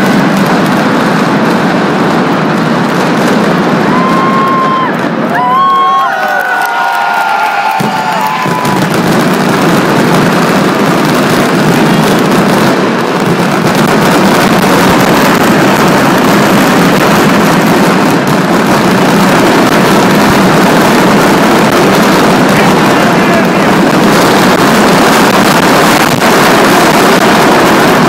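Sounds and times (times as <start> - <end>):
firecrackers barrage: 0.0 - 28.0.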